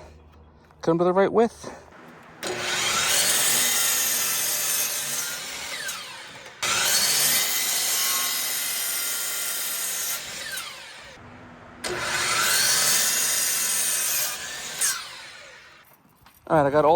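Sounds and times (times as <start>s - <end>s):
power saw cutting lumber: 2.0s - 15.8s.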